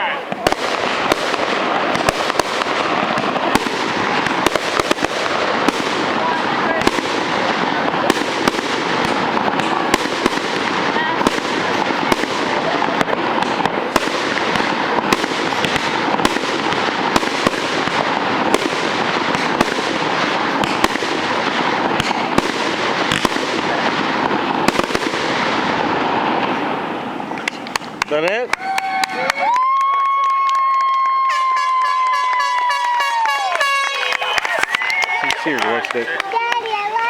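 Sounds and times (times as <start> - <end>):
fireworks crackling and banging: 0.0 - 37.0.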